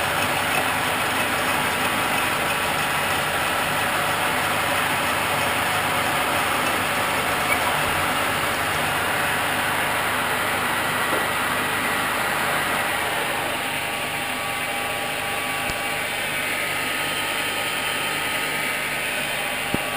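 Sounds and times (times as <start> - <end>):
lathe cutting into tube: 0.0 - 19.9.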